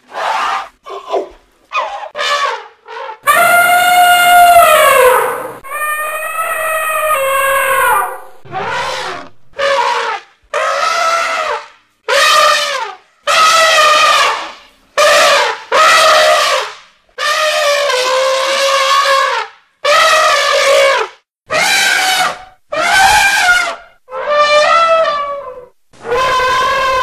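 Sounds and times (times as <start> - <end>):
elephant trumpeting: 0.1 - 16.6, 21.5 - 27.0.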